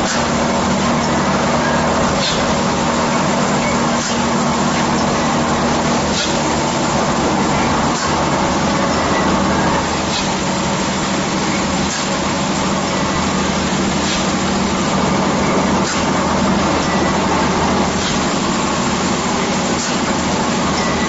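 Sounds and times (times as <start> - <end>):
machine hum and hiss: 0.0 - 21.0.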